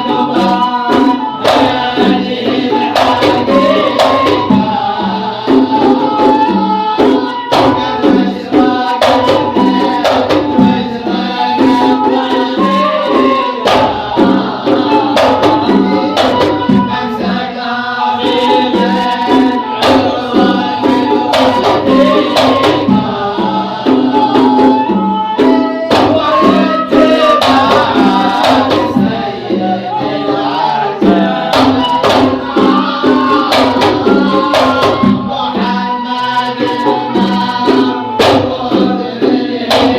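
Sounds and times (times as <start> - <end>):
hand drum beats: 0.0 - 39.9.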